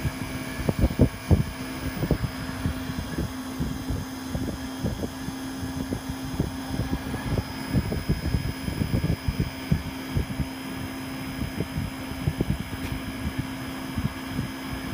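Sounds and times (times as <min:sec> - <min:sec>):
air conditioning unit humming: 0:00.0 - 0:14.9
wind gusts on microphone: 0:00.0 - 0:14.9.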